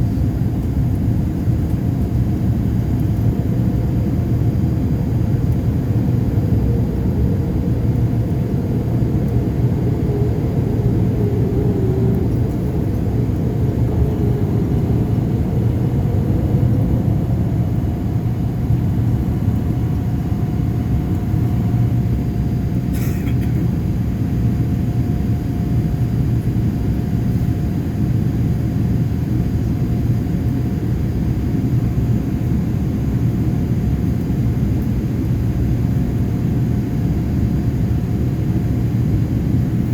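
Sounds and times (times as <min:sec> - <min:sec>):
jet cabin engine rumble: 0:00.0 - 0:39.9.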